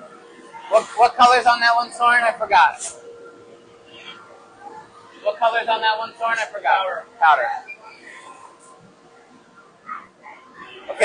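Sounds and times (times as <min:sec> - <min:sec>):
thin steady tone: 0:00.0 - 0:11.0.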